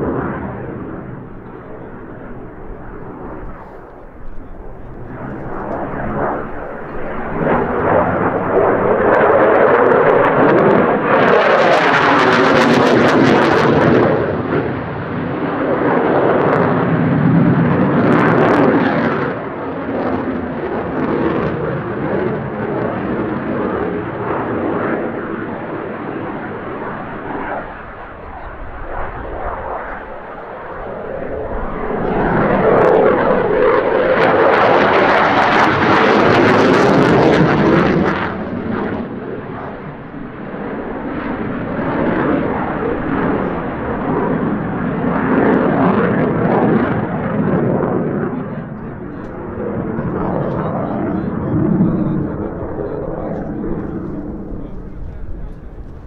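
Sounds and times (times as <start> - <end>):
fighter jet engine roaring: 0.0 - 56.0.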